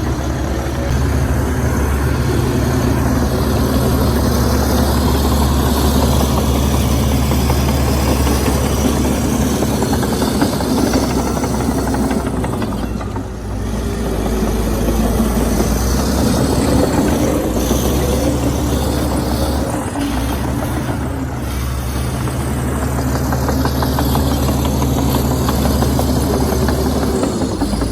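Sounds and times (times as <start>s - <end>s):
bulldozer diesel engine running: 0.0s - 27.9s.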